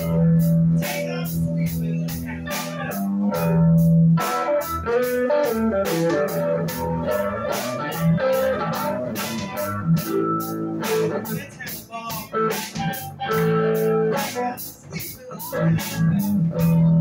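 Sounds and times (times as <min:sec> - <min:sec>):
drum kit cymbal beat: 0:00.0 - 0:17.0
electric guitar lead line: 0:00.0 - 0:17.0.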